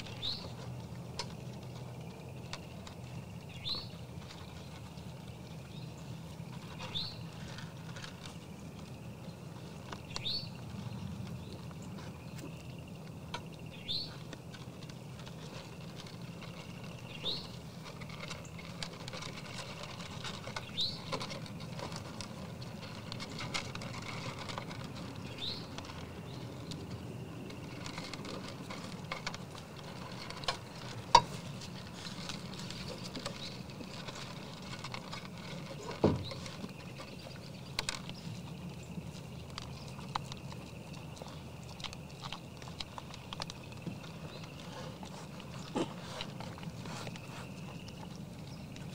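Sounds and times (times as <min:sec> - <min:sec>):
deer crunching feed: 0:00.0 - 0:48.9.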